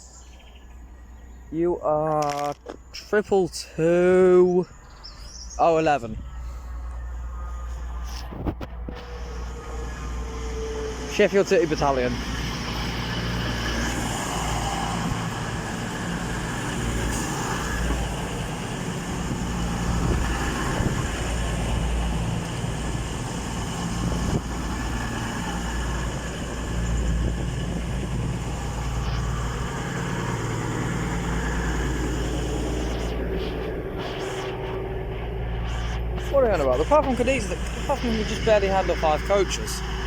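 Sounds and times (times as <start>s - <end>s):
diesel train engines humming: 2.8s - 40.0s.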